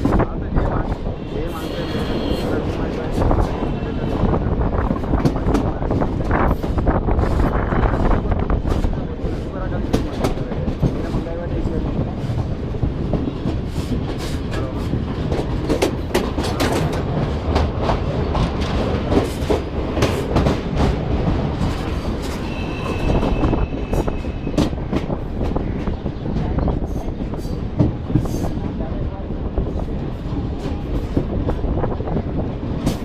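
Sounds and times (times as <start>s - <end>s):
train wheels clattering over rail joints: 2.6s - 28.8s, 30.5s - 33.0s.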